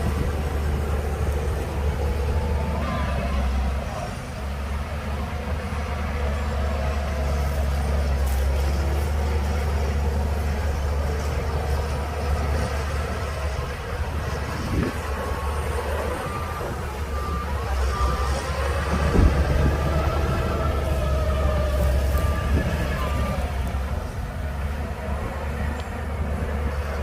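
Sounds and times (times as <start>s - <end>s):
bulldozer diesel engine rumbling: 0.0s - 27.0s.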